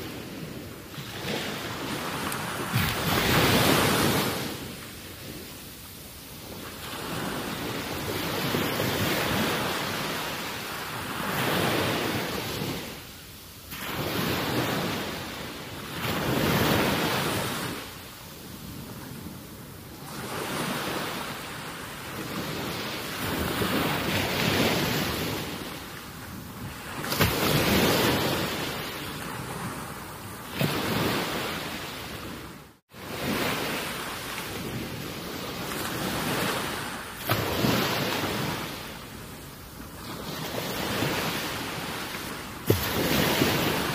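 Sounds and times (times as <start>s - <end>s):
waves rushing: 0.0s - 43.9s
wind: 0.0s - 43.9s.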